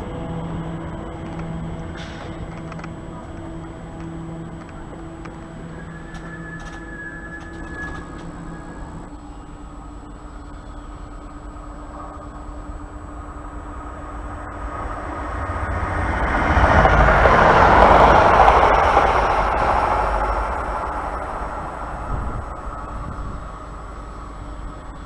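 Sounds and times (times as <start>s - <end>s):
train passing with rail noise: 0.0s - 25.0s.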